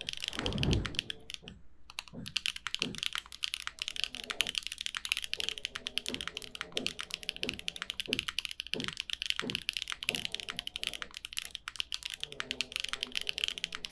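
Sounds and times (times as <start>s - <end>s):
mechanical keyboard typing: 0.0s - 13.9s.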